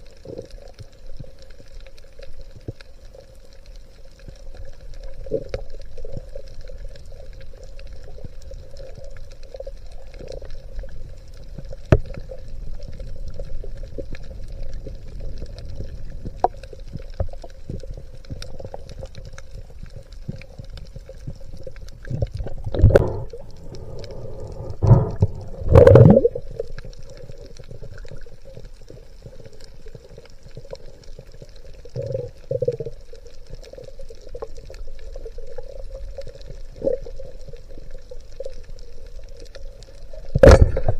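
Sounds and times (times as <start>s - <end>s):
muffled underwater rumble and sloshing: 0.0s - 40.9s
rushes of water or bubbles: 4.6s - 40.9s.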